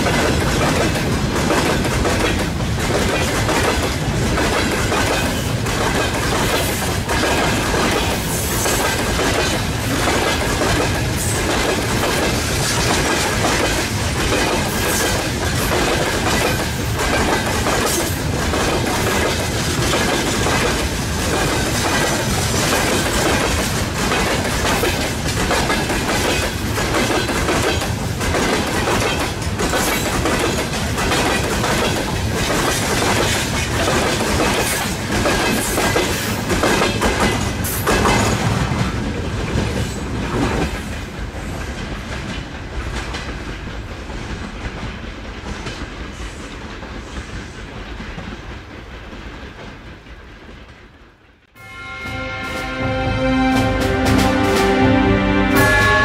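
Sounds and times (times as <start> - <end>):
freight train wheels clacking: 0.0 - 51.2.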